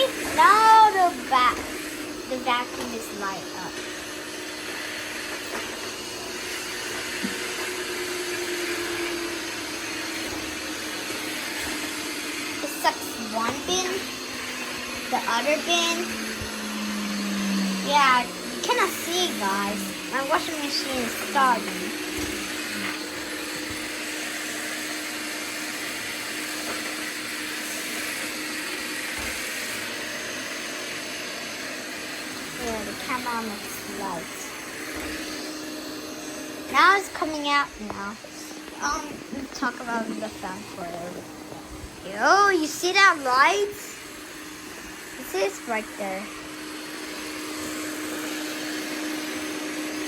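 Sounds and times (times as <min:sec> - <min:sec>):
vacuum dock suction motor whooshing: 0:00.0 - 0:50.0.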